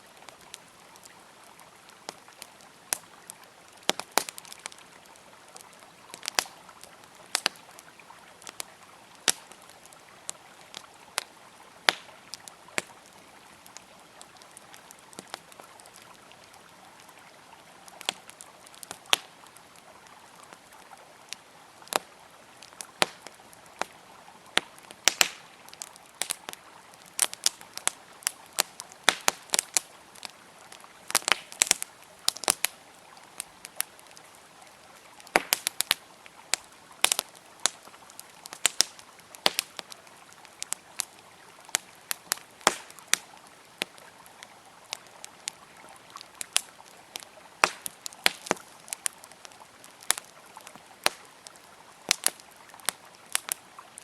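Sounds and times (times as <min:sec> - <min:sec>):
campfire crackling and popping: 0:00.0 - 0:54.0
river flowing: 0:00.0 - 0:54.0.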